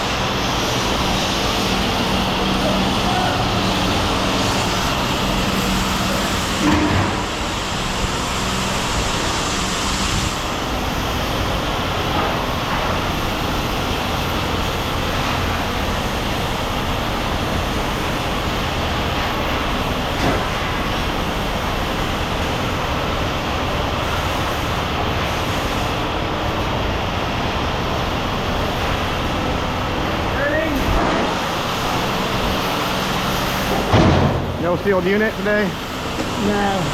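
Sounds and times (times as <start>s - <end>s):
large engine running: 0.0s - 36.9s.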